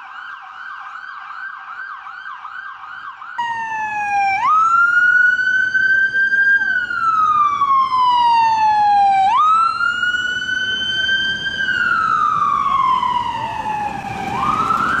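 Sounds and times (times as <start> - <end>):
emergency vehicle siren wailing: 0.0 - 15.0.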